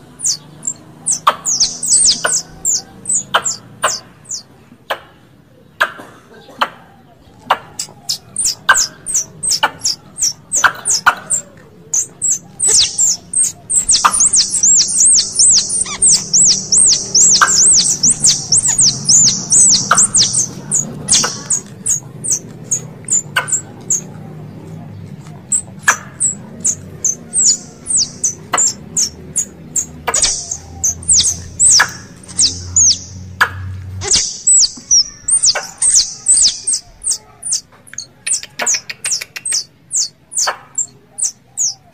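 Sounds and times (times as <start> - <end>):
squirrel calls chirping and chattering: 0.0 - 5.0, 7.4 - 24.2, 25.2 - 41.9.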